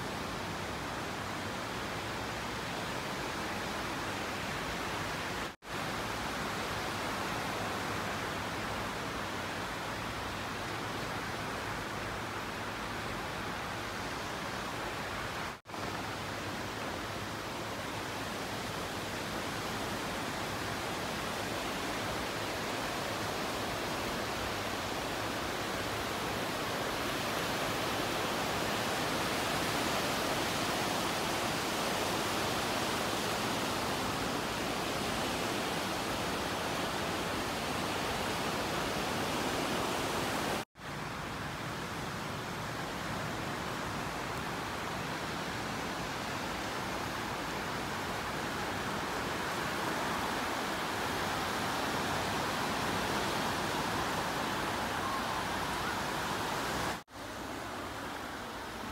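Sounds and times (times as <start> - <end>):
outdoor ambience rushing noise: 0.0 - 58.9.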